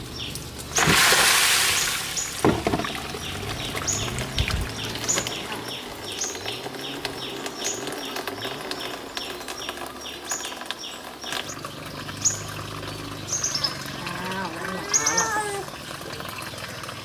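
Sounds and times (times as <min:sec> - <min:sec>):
bird chirping: 0:01.7 - 0:15.7.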